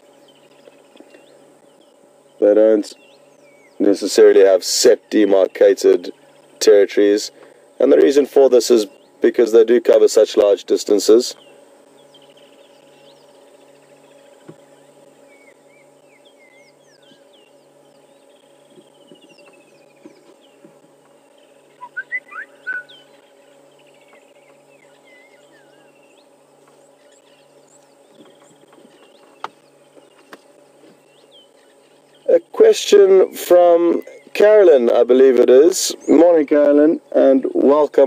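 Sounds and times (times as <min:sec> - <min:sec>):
birds chirping and trilling: 0:00.0 - 0:38.0
steady low hum: 0:00.0 - 0:38.0.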